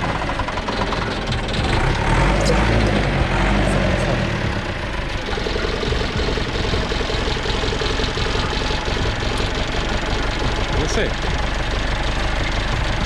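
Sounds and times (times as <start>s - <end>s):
loader engine idling: 0.0s - 13.0s.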